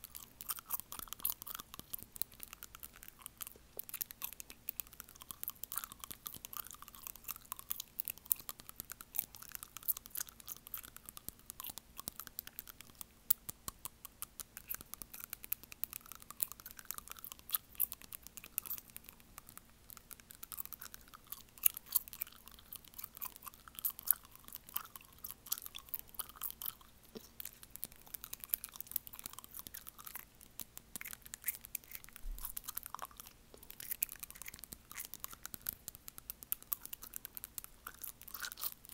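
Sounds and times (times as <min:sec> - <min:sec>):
teeth clicking on fingernail: 0:00.0 - 0:38.9.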